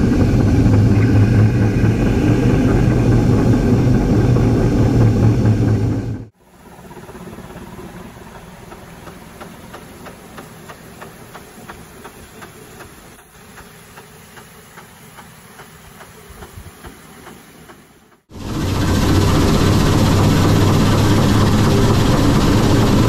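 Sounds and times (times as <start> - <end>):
rush of steam and snow: 0.0 - 23.0
steam exhaust beating: 0.0 - 23.0.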